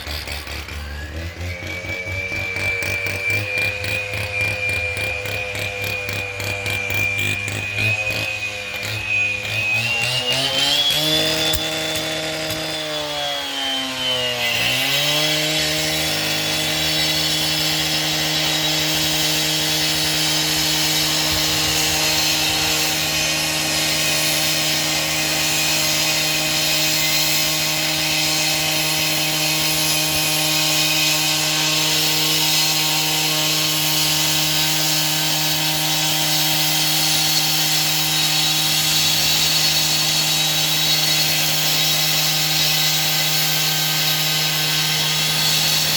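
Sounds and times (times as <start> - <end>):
engine-driven saw cutting: 0.0 - 45.9.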